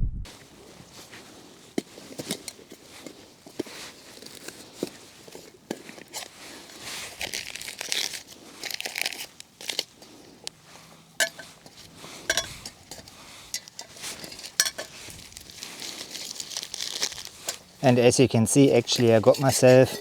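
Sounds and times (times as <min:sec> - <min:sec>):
packing bags rustling and crinkling: 0:00.4 - 0:20.0.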